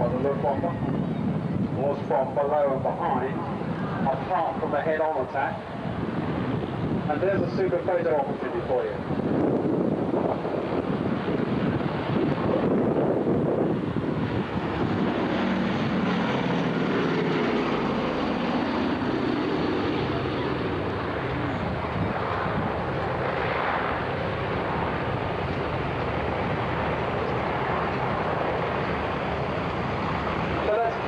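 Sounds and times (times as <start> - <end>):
propeller plane flying by: 0.0 - 31.0.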